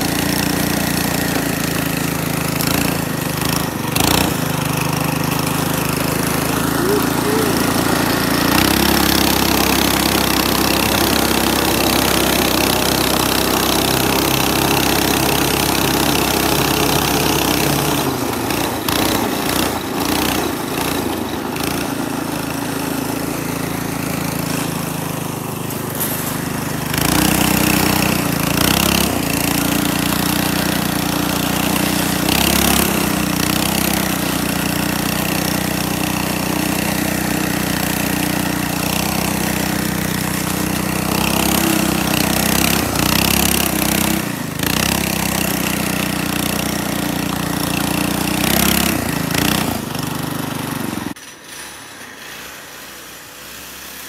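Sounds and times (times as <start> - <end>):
small engine running under load: 0.0 - 54.0.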